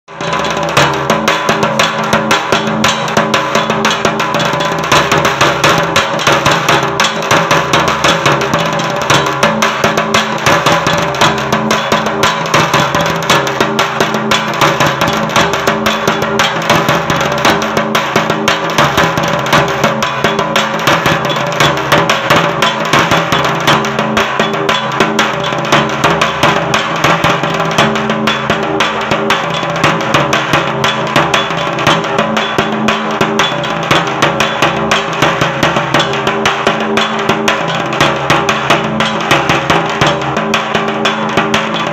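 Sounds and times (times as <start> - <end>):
drum beaten with thin sticks: 0.1 - 41.9.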